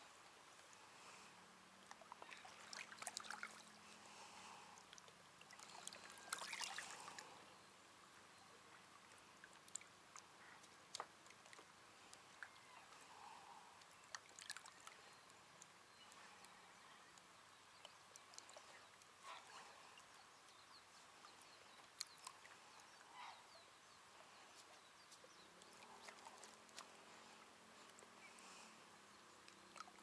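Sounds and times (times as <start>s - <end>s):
soft water sounds: 0.0s - 30.0s.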